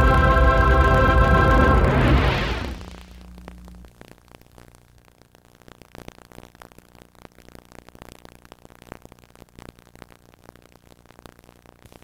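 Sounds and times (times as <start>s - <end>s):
tape static and hiss: 0.0s - 12.0s.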